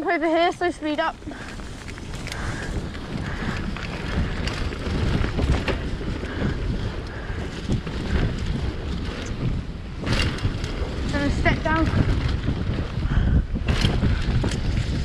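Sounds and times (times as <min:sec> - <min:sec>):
bike rattling over bumps: 0:00.0 - 0:15.0
wind buffeting microphone: 0:00.0 - 0:15.0
tyres rumbling over dirt: 0:00.2 - 0:15.0.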